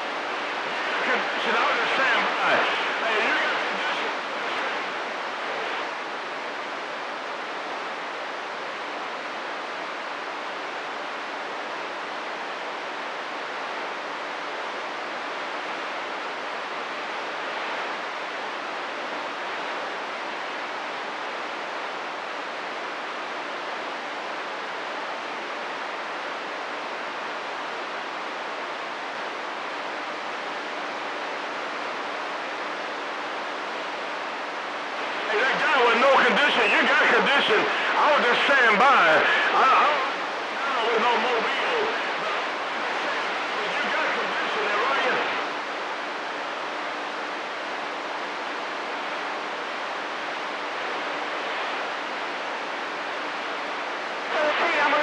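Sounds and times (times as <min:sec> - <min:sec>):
faint low hum: 0:00.0 - 0:55.0
radio static hiss: 0:00.0 - 0:55.0.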